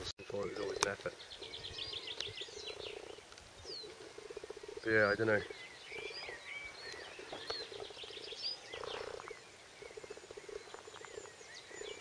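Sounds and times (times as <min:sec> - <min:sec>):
birds chirping and singing: 0:00.0 - 0:12.0
low pulsing animal call: 0:01.2 - 0:12.0.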